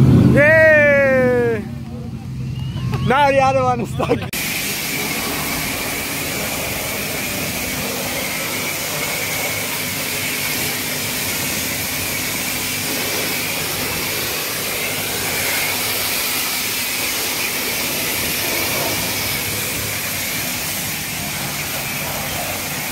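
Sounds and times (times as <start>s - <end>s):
pressure washer spraying water: 4.3s - 22.9s.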